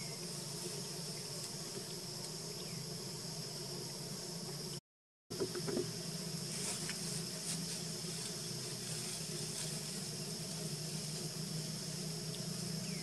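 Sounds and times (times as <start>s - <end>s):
constant low hum: 0.0s - 13.0s
insect chorus buzzing: 0.0s - 13.0s.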